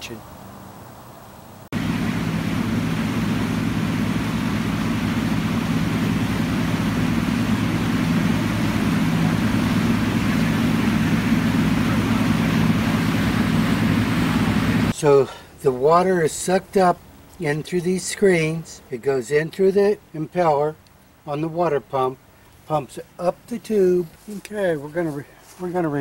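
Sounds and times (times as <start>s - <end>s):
boat engine humming: 0.0s - 26.0s
rushing water hiss: 0.0s - 26.0s.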